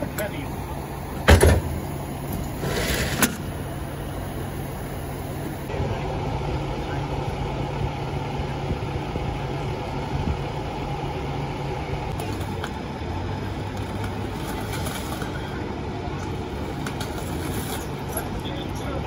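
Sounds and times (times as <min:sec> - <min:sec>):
engine idling: 0:00.0 - 0:19.0
street noise: 0:00.0 - 0:19.0.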